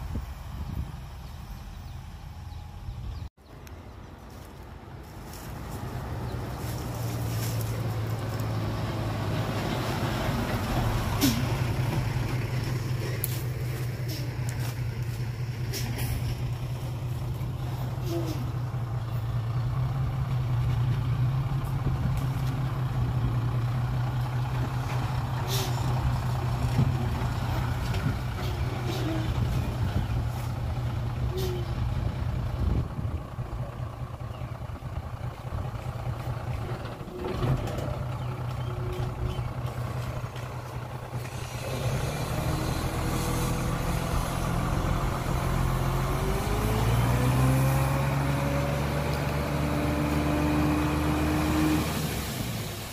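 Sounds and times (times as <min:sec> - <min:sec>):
truck diesel engine running: 0:05.3 - 0:52.9.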